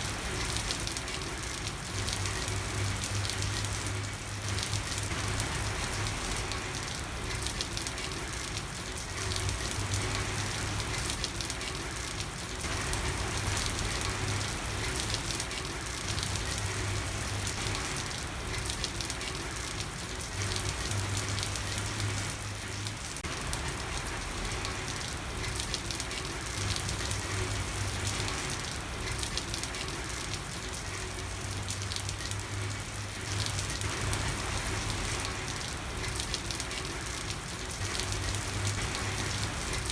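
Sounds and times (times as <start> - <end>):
rain falling on a street: 0.0 - 39.9.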